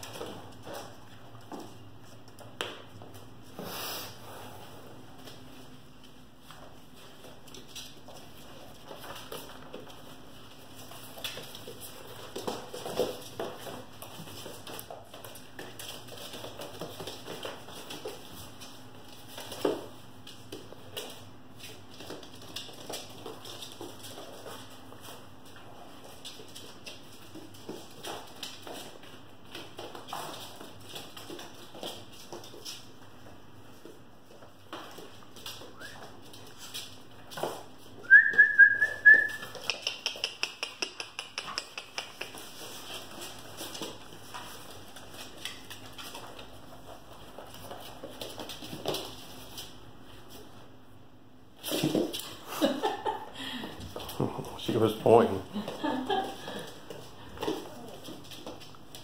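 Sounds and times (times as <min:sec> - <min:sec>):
puppy claws clicking on hard floor: 0:00.0 - 0:03.4, 0:05.2 - 0:38.0, 0:38.9 - 0:50.6, 0:51.6 - 0:59.0.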